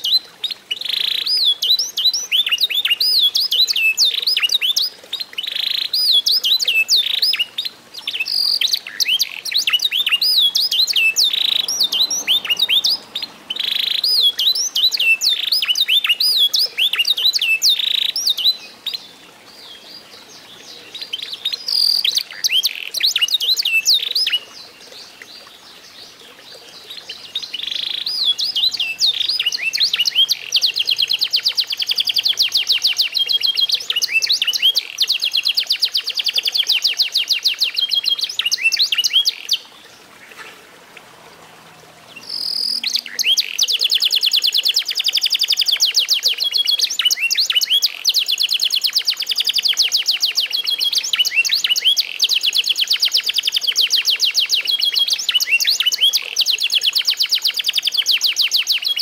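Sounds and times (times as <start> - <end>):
canary singing: 0.7 - 24.5, 26.9 - 39.7, 42.1 - 59.0.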